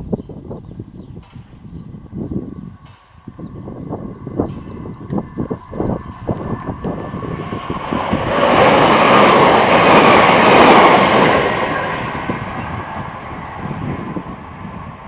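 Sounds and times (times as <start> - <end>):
train passing at speed: 0.5 - 15.0.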